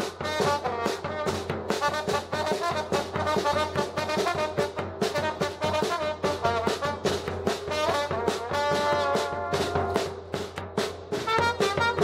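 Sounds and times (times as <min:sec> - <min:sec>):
slide trombone: 0:00.0 - 0:10.4, 0:11.1 - 0:12.0
trumpet: 0:00.0 - 0:12.0.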